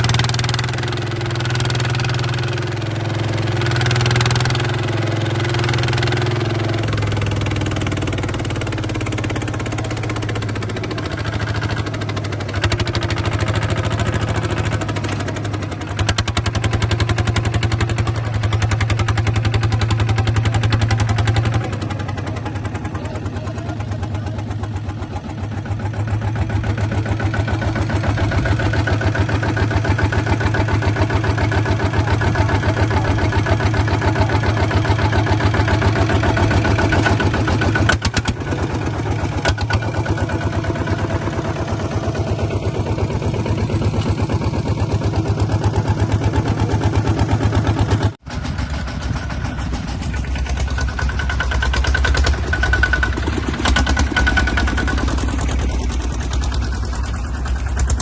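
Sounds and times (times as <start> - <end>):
bulldozer engine chugging: 0.0 - 58.0.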